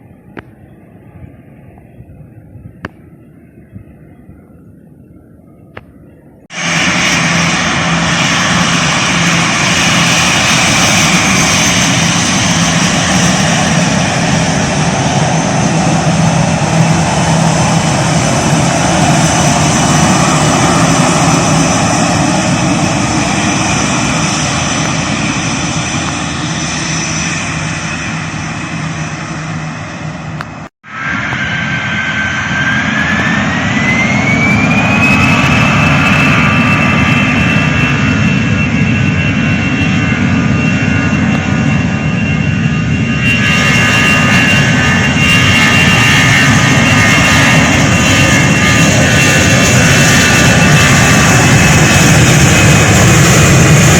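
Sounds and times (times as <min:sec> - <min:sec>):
high engine whine: 0:00.0 - 0:53.9
jet engines running: 0:00.0 - 0:53.9.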